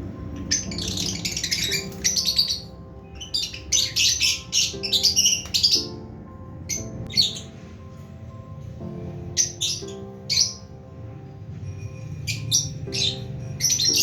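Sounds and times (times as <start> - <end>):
background music of held notes: 0.0 - 14.0
lovebirds chirping: 0.0 - 14.0.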